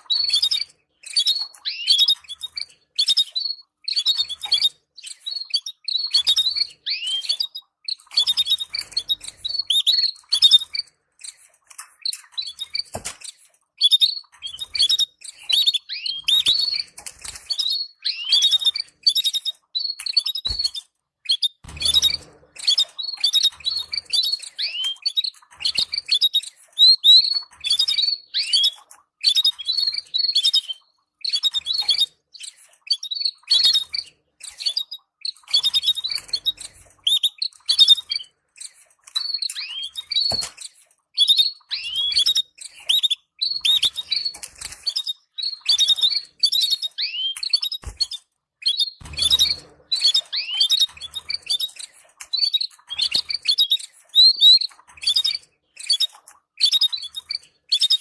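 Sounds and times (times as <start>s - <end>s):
canaries chirping: 0.0s - 58.0s.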